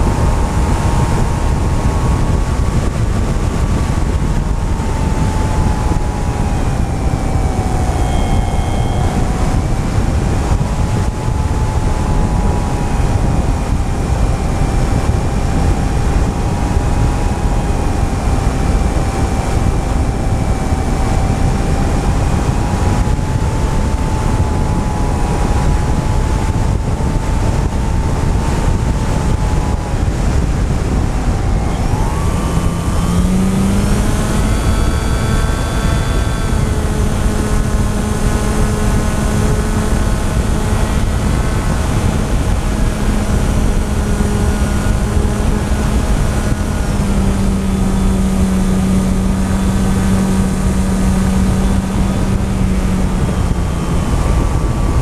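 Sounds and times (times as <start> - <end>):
model aircraft motor whine: 0.0 - 55.0
wind noise on microphone: 0.0 - 55.0.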